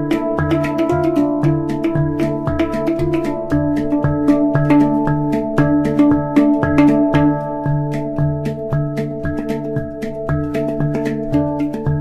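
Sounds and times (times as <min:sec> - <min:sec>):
handpan notes ringing: 0:00.0 - 0:12.0.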